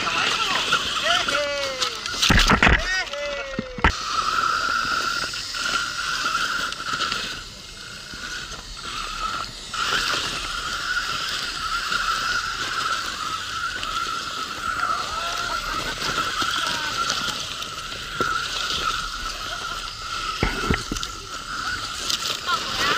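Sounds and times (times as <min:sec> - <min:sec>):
electric motor and gears whining: 0:00.0 - 0:22.9.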